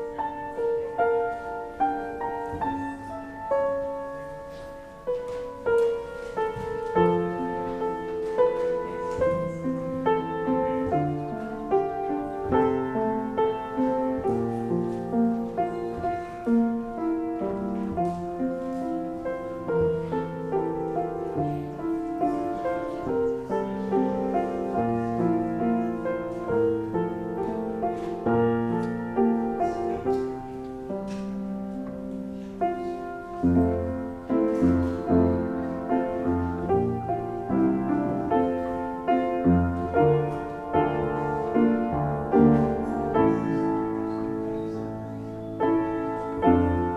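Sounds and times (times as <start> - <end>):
piano chords and notes: 0.0 - 46.9.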